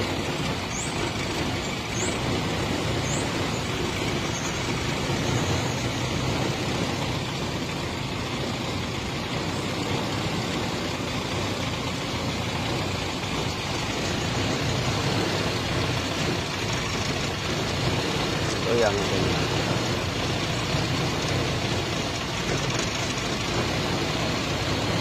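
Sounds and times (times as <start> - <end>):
car engine running roughly: 0.0 - 25.0.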